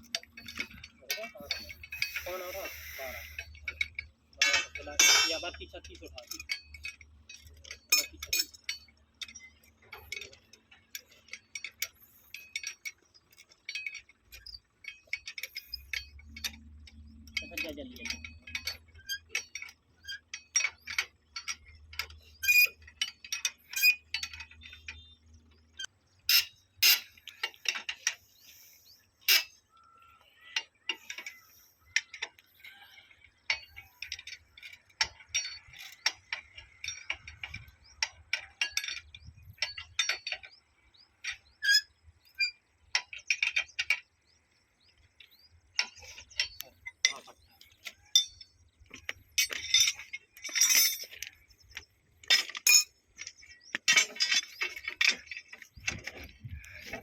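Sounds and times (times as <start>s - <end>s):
metal tools clinking and knocking: 0.0s - 57.0s.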